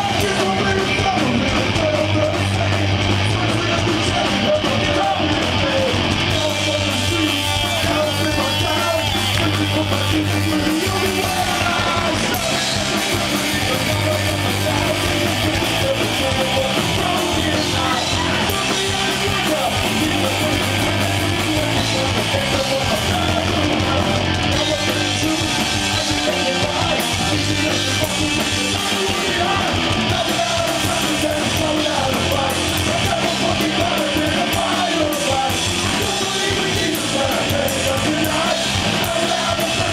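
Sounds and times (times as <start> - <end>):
bass guitar: 0.0 - 39.9
distorted electric guitar: 0.0 - 39.9
drums: 0.0 - 39.9
shouted lead vocals: 0.0 - 39.9.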